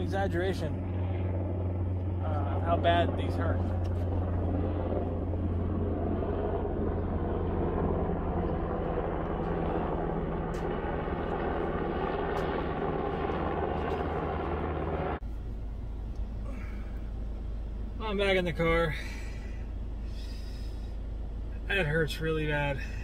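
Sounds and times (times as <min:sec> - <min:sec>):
engine drone with low hum: 0:00.0 - 0:23.0
quiet low rumble: 0:00.0 - 0:23.0.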